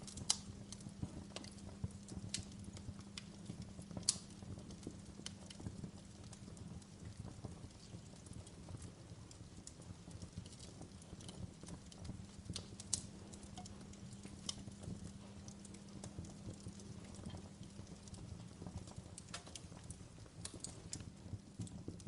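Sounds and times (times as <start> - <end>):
fire crackling and popping: 0.0 - 22.0
low rumble of flame: 0.0 - 22.0.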